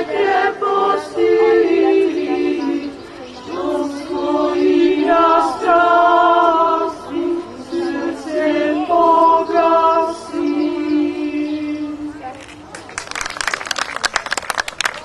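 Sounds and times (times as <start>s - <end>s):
women's choir singing a cappella: 0.0s - 12.3s.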